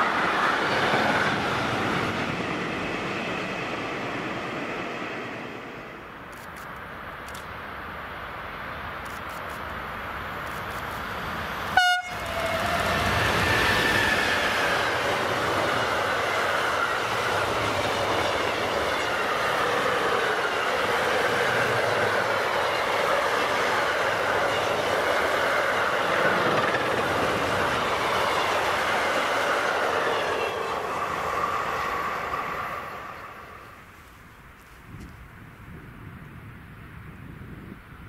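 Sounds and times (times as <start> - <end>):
train wheels rumbling on rail: 0.0 - 5.8, 9.1 - 33.8.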